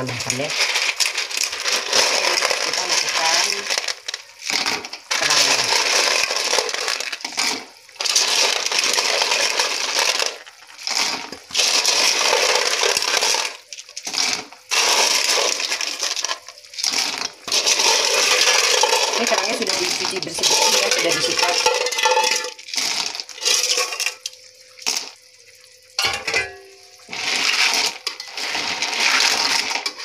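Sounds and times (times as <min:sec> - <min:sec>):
shells clattering in a wok: 0:00.2 - 0:25.2, 0:25.9 - 0:30.0.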